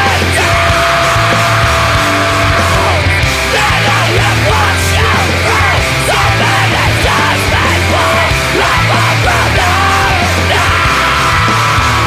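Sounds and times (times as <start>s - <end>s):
loud punk metal band: 0.0s - 12.0s
person yelling vocals: 0.0s - 12.0s.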